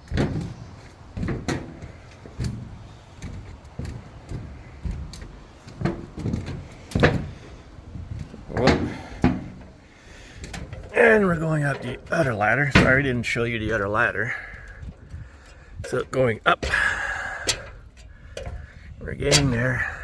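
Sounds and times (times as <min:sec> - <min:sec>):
footsteps on a roof: 0:00.0 - 0:20.0.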